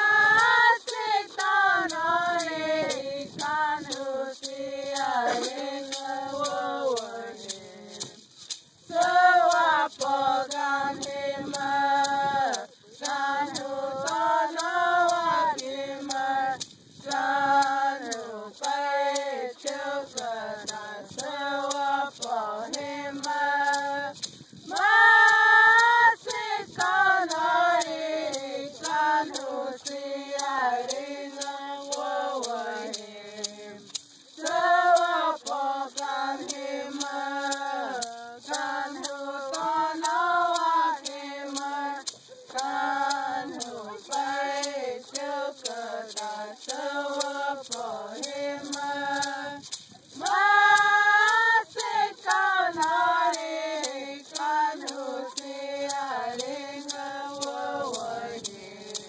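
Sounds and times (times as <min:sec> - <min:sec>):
voices singing: 0:00.0 - 0:59.0.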